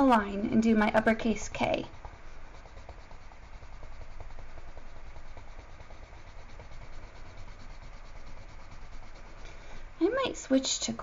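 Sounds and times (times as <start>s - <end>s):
pencil scratching on paper: 0.0s - 10.6s.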